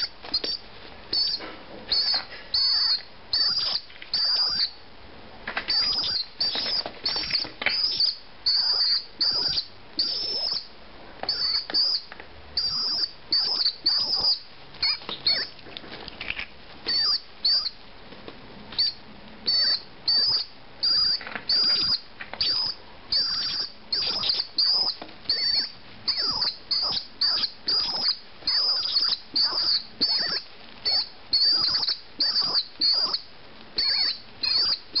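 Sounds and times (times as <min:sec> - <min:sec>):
young pigeon peeping: 0:00.0 - 0:04.8, 0:05.5 - 0:17.8, 0:18.7 - 0:35.0.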